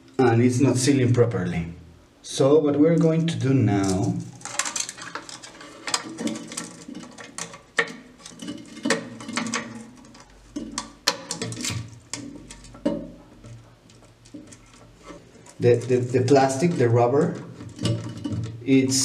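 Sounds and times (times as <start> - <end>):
hands handling toilet tank parts: 3.8 - 19.0.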